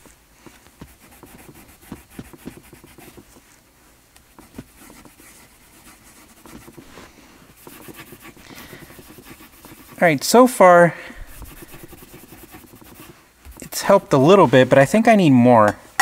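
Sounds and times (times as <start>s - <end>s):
cloth rubbing on leather: 0.0s - 10.4s, 11.2s - 14.9s.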